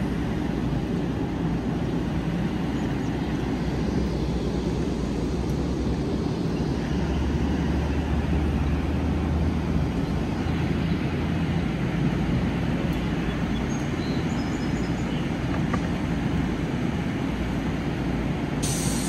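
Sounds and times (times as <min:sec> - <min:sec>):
train equipment humming: 0:00.0 - 0:08.5, 0:09.8 - 0:19.0.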